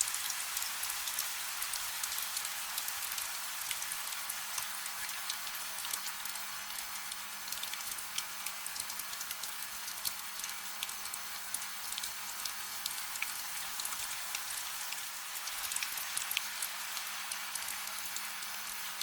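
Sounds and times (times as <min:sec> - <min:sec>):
gentle rain on hard surface: 0:00.0 - 0:19.0.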